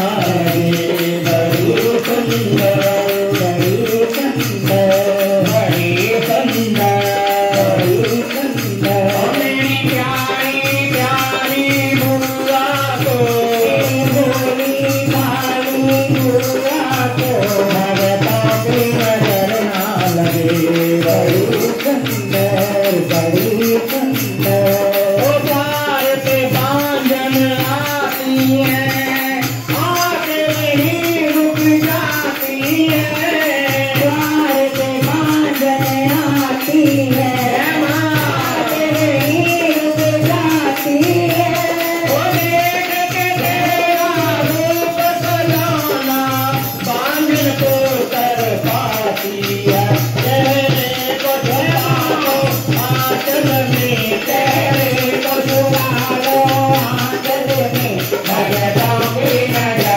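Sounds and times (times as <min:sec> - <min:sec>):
man singing through a microphone: 0:00.0 - 0:59.9
tambourine-like jingles: 0:00.0 - 0:59.9.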